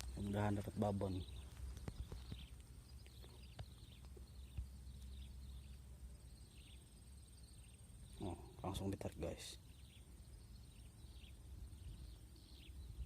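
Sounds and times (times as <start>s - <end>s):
faint high chirps: 0.0s - 13.0s
high insect-like whine: 0.0s - 13.0s.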